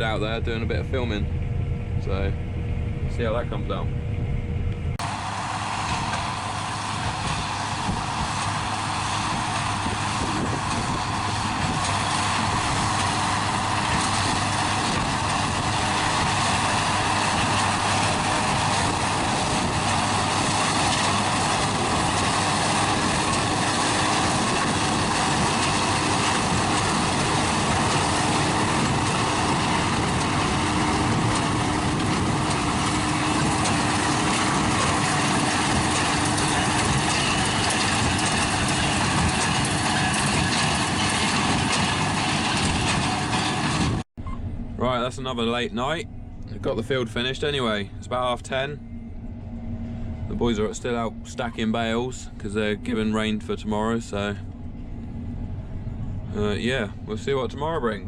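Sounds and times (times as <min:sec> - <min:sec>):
farm machinery droning: 0:00.0 - 0:58.0.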